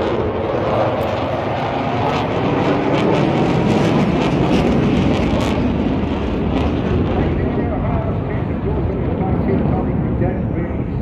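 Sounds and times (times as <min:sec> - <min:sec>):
aircraft flying overhead: 0:00.0 - 0:11.0.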